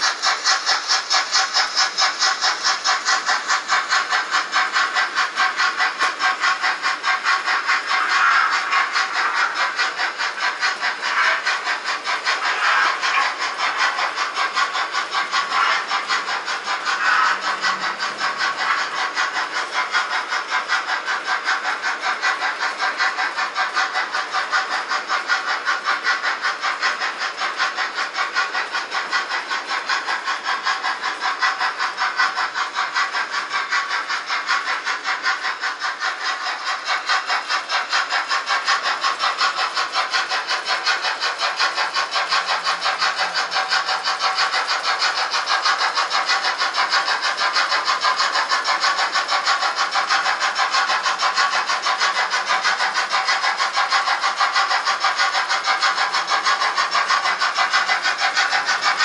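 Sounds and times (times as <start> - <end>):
model train wheels clattering: 0.0 - 59.0.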